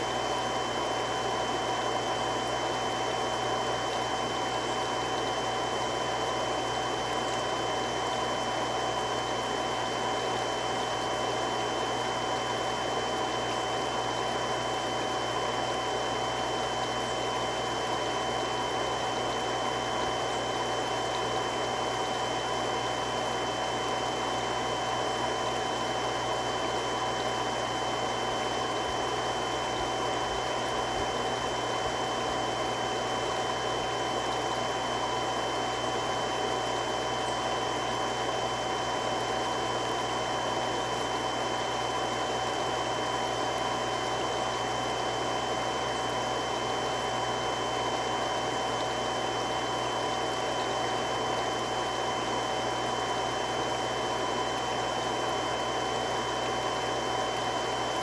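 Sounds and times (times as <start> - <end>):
water pump rushing: 0.0 - 58.0.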